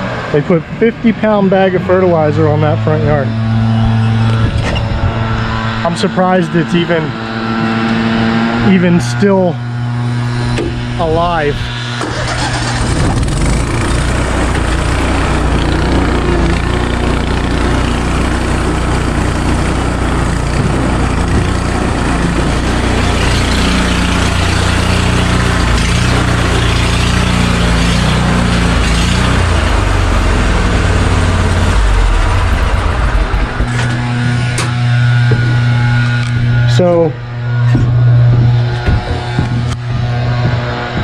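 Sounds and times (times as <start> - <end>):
lawn mower engine running: 0.0 - 41.0.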